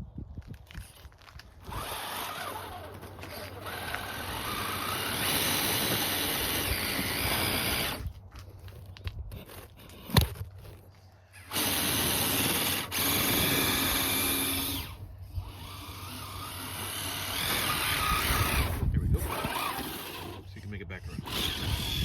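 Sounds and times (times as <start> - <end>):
toy car electric motor whining: 1.5 - 8.1, 9.3 - 22.0.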